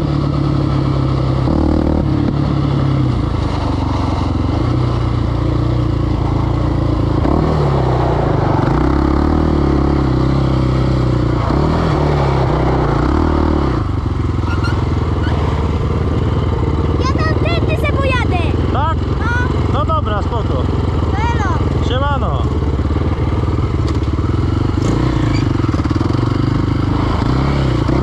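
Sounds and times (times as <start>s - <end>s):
quad engine revving and idling: 0.0s - 28.0s.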